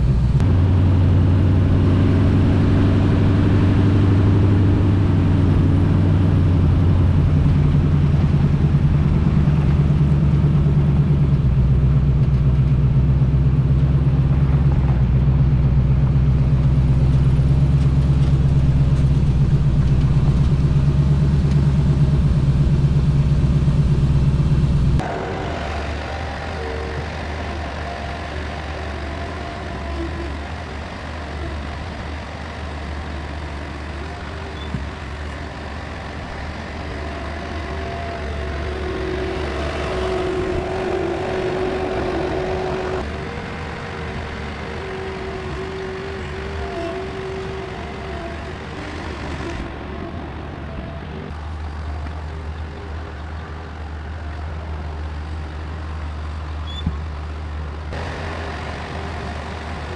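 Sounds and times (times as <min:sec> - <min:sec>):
diesel engine running under load: 0:00.0 - 0:59.9
high engine whine: 0:00.0 - 0:59.9.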